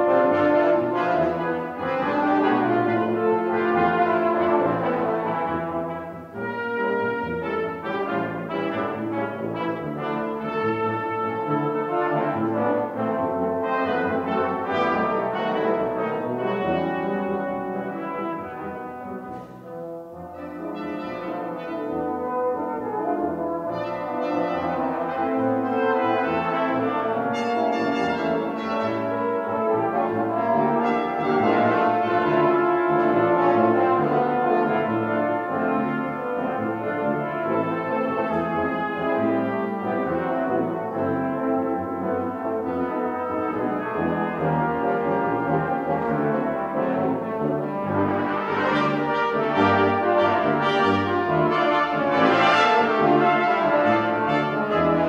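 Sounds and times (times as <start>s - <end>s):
brass ensemble playing: 0.0s - 55.0s.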